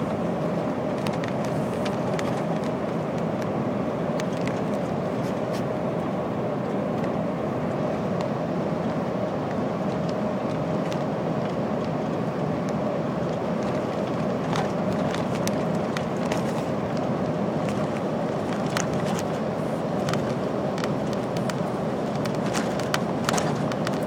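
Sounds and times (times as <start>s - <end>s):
diesel engine drone: 0.0s - 24.0s
road noise: 0.0s - 24.0s.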